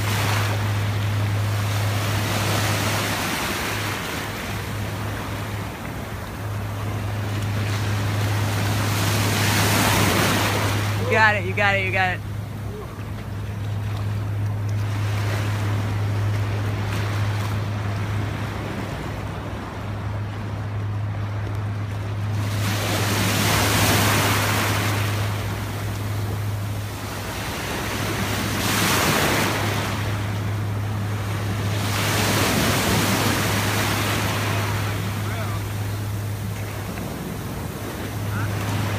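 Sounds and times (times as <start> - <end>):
small ocean waves washing in: 0.0 - 38.9
steady low hum: 0.0 - 38.9.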